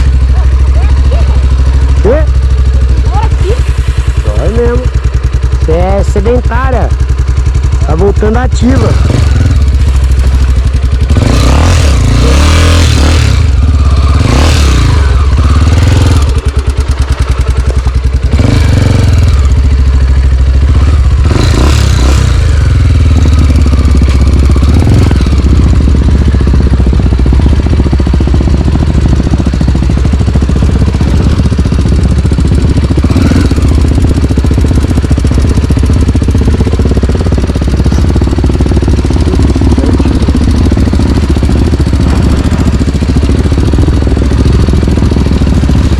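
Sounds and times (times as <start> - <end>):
motorcycle engine running hard: 0.0 - 45.9.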